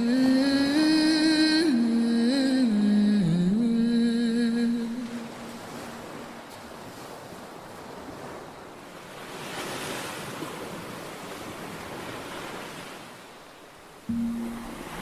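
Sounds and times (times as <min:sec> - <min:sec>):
ocean waves washing in: 0:00.0 - 0:15.0
wind: 0:00.0 - 0:15.0.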